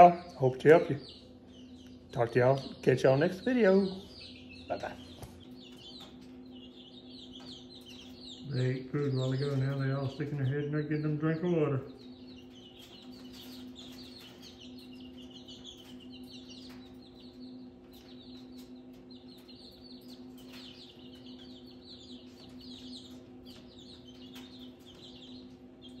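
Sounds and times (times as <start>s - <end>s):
chicks peeping: 0.0s - 26.0s
steady low hum: 0.0s - 26.0s.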